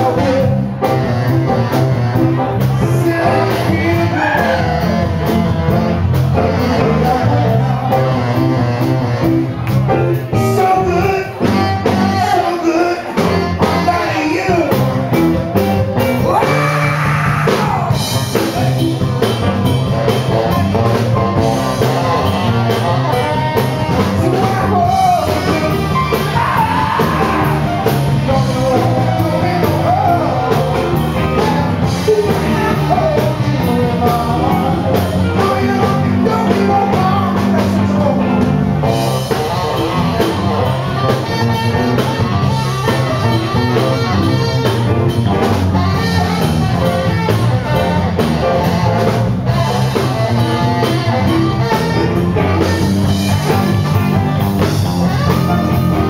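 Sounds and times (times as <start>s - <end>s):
man singing: 0.0s - 19.2s, 20.0s - 54.0s
bass guitar: 0.0s - 56.0s
drum kit: 0.0s - 56.0s
electric guitar: 0.0s - 56.0s
saxophone: 0.0s - 56.0s.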